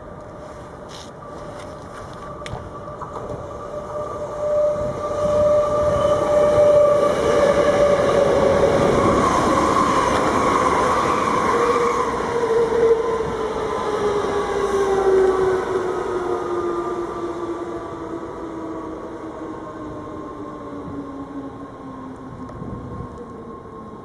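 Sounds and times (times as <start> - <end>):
train passing: 0.0 - 24.0.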